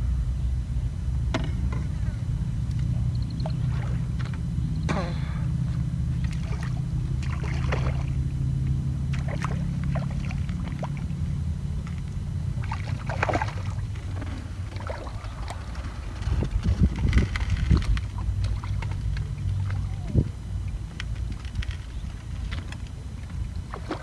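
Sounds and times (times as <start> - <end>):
motor droning: 0.0 - 24.0.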